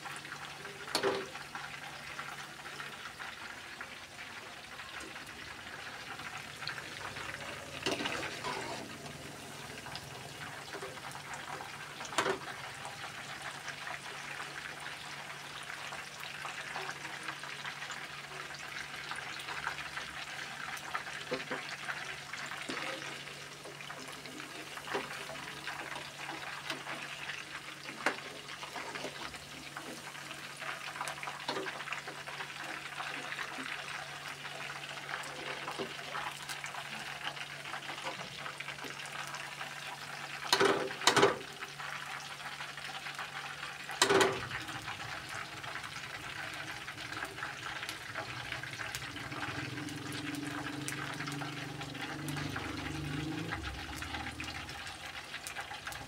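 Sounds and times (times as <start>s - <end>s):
food deep-frying in oil: 0.0s - 56.0s.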